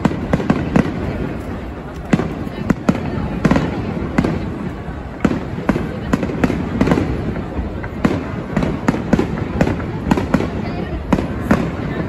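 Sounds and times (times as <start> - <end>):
low rumble of echoing reports: 0.0 - 12.0.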